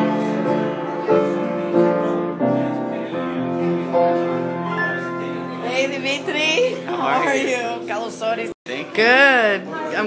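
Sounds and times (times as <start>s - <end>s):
piano chords: 0.0s - 8.5s.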